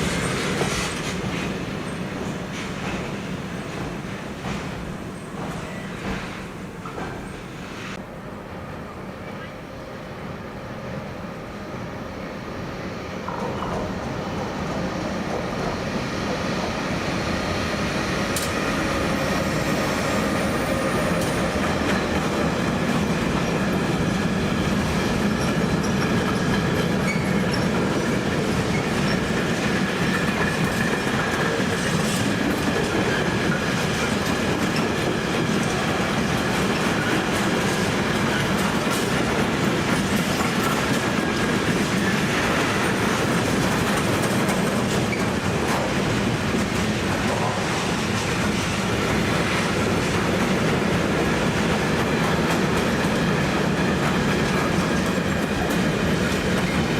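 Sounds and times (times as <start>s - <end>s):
train wheels clattering: 0.0s - 7.9s, 13.2s - 56.9s.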